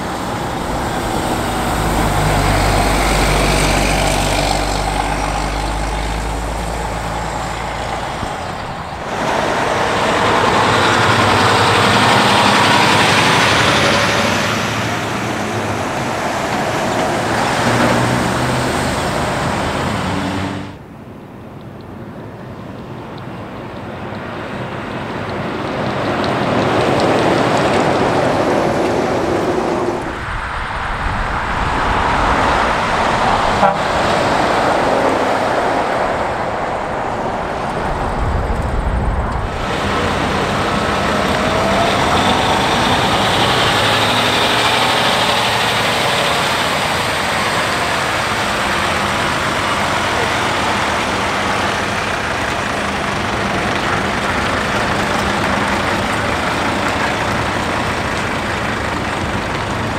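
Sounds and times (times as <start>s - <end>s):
trucks driving past: 0.0s - 59.9s.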